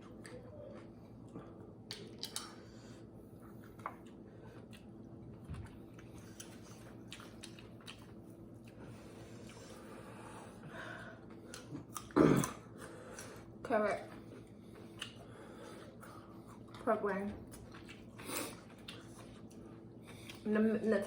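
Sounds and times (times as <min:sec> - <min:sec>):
quiet chewing of food: 0:00.0 - 0:20.5
faint steady hum: 0:00.0 - 0:21.0.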